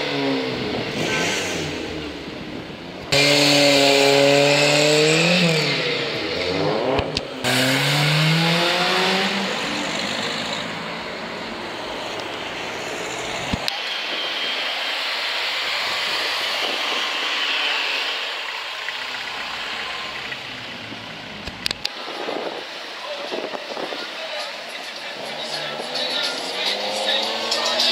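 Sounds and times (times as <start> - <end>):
car engine revving: 0.0 - 22.7, 24.7 - 27.9
traffic noise: 0.0 - 27.9.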